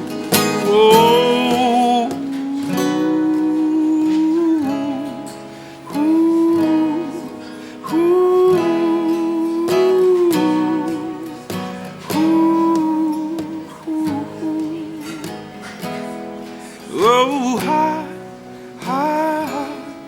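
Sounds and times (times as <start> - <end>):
strummed acoustic guitar: 0.0 - 20.0
person singing long notes: 0.3 - 15.5, 16.8 - 20.0.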